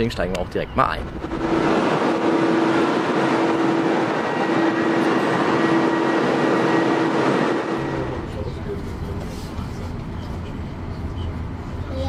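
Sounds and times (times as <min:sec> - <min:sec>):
standing train rushing hum: 0:00.0 - 0:12.0.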